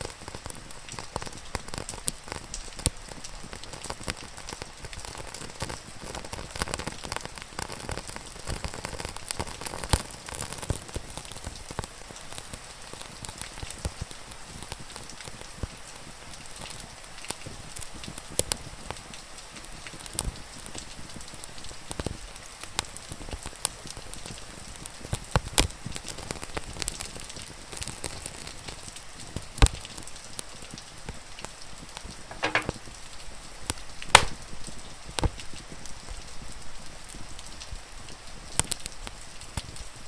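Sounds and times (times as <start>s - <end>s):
rain hissing: 0.0s - 40.0s
wood fire crackling and popping: 0.0s - 40.0s.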